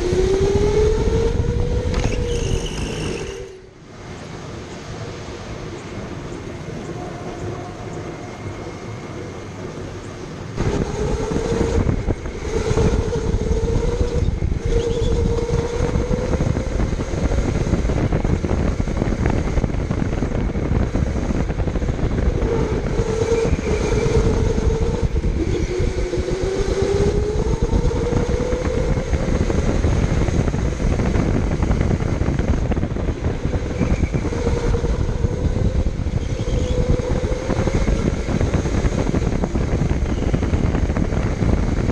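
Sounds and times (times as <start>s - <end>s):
electric go-kart motor whining: 0.0s - 3.7s, 10.6s - 41.9s
heavy rumble: 0.0s - 41.9s.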